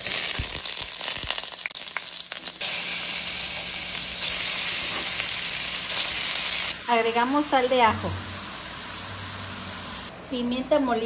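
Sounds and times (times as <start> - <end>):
onion and beef sizzling in pan: 0.0 - 10.1.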